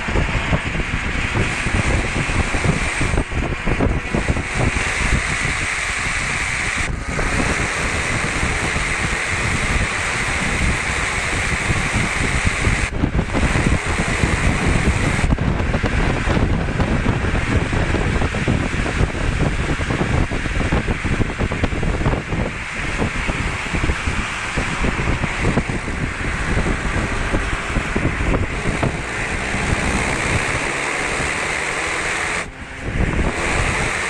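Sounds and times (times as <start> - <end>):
car running noise: 0.0 - 34.0
wind rush on microphone: 0.0 - 34.0.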